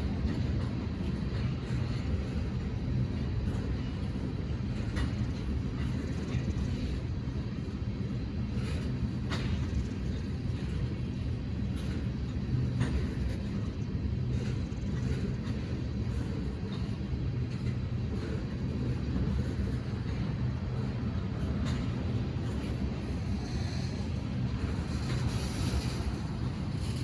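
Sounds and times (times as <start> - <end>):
diesel locomotive engine drone: 0.0 - 27.0
train rumble: 0.0 - 27.0.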